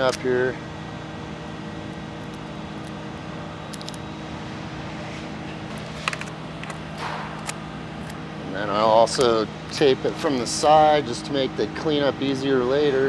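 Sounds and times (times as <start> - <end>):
machinery hum: 0.0 - 13.0.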